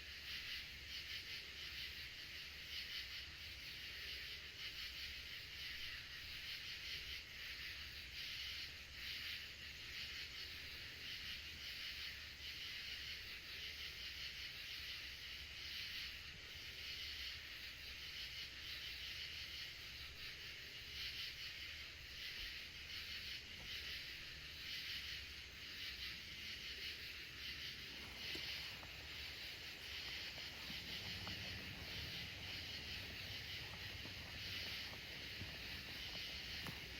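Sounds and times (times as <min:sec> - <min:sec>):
insects chorus: 0:00.0 - 0:36.9.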